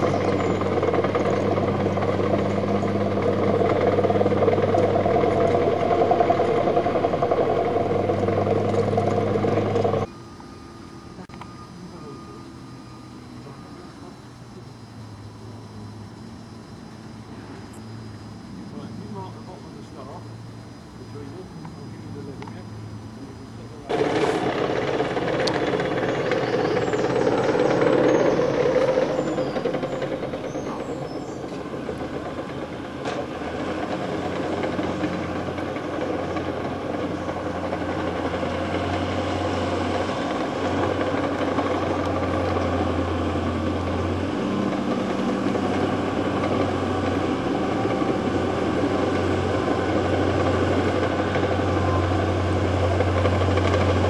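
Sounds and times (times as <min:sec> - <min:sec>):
bulldozer diesel engine running: 0:00.0 - 0:10.1, 0:18.7 - 0:54.0.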